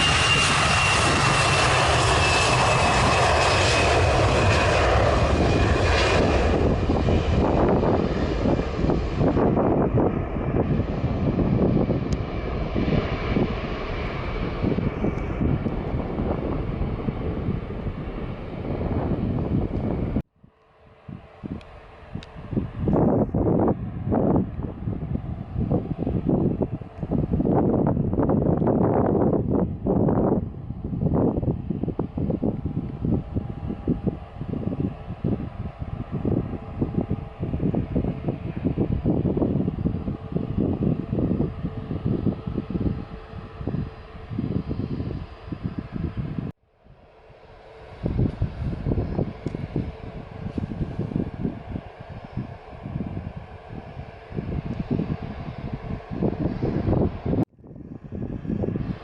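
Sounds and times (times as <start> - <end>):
jet engines rumbling: 0.0 - 59.0
wind buffeting microphone: 0.0 - 59.0.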